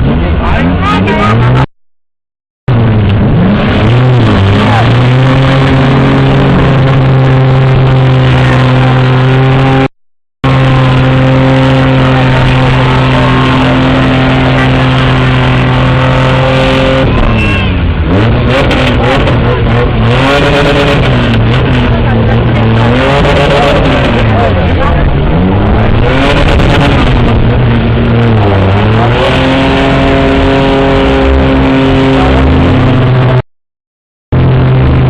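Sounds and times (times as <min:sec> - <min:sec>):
truck engine revving loud: 0:00.0 - 0:01.7, 0:02.7 - 0:33.5, 0:34.3 - 0:35.0.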